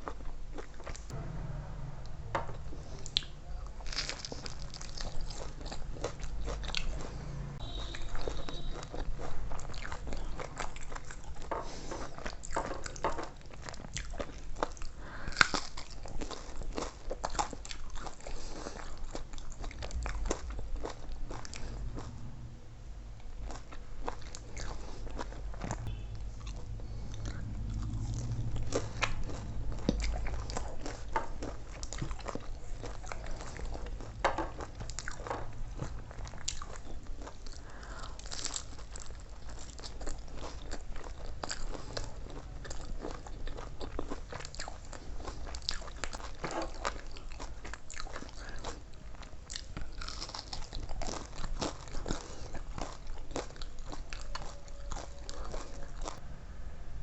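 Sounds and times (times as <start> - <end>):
person chewing crunchy food: 0.0 - 1.2, 2.4 - 22.5, 23.2 - 56.2
low steady hum: 0.0 - 57.0.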